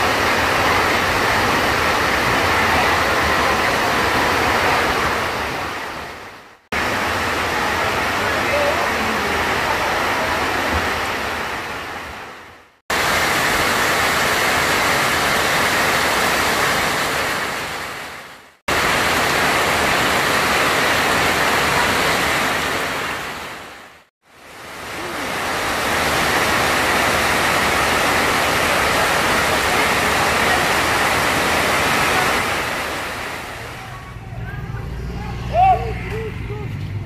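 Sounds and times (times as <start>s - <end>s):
heavy rain pouring: 0.0s - 36.8s.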